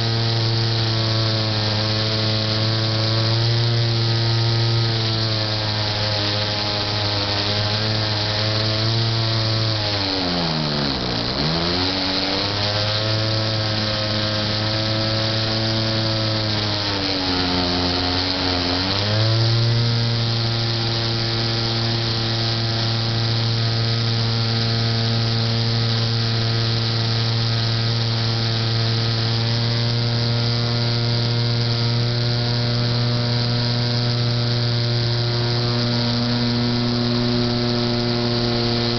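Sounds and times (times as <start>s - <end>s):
model airplane motor droning: 0.0s - 38.9s.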